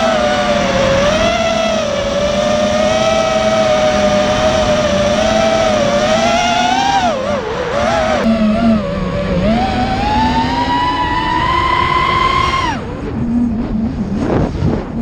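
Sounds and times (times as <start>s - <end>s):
quadcopter motors whining: 0.0s - 14.5s.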